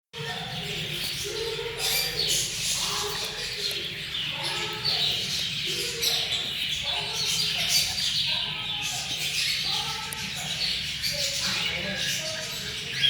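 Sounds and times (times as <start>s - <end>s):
bird chicks chirping: 0.2s - 13.0s.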